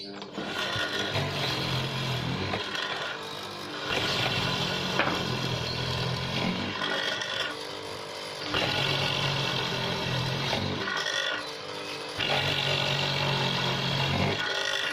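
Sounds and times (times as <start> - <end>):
mortiser motor running: 0.0 - 14.9.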